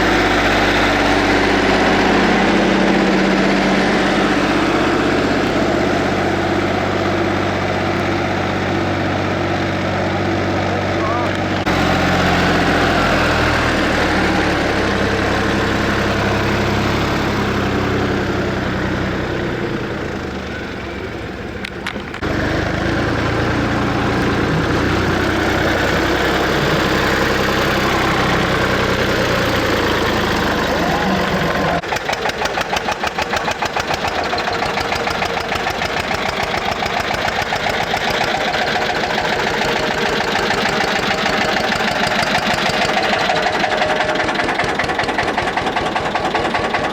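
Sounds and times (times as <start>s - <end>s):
tractor diesel engines running: 0.0s - 46.9s.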